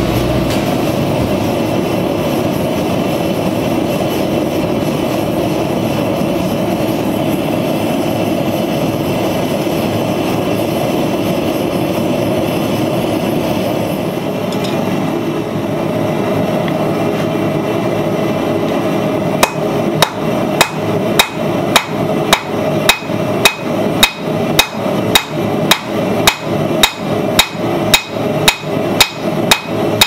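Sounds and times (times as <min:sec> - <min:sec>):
gas burner flame rushing: 0:00.0 - 0:30.0.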